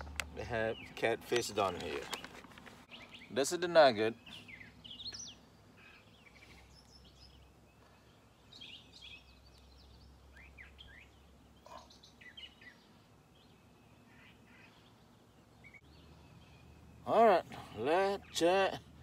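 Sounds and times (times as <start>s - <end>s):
low steady hum: 0.0s - 19.0s
songbirds chirping: 0.0s - 19.0s.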